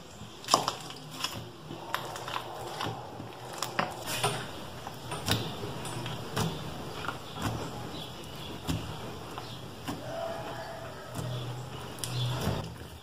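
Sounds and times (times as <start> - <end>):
slime squishing: 0.0 - 13.0.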